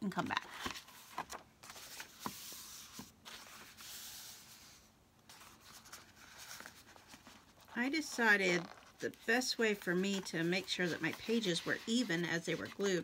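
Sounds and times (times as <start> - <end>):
book pages rustling: 0.1 - 13.0.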